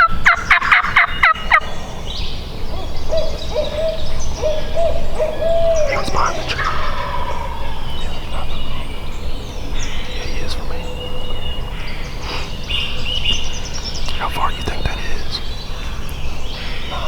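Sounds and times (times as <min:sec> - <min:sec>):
low wavering hooting call: 0:00.0 - 0:17.0
turkey gobbling: 0:00.0 - 0:17.0.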